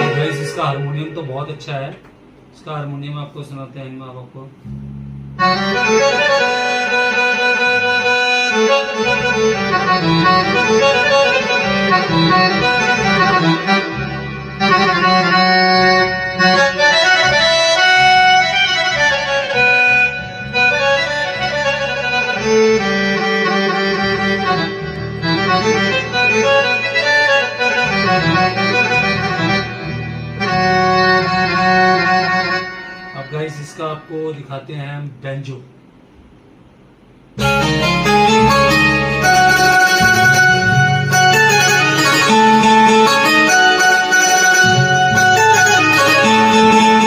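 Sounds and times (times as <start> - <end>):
electronic keyboard melody: 0.0 - 1.9, 4.6 - 34.1, 37.4 - 47.0.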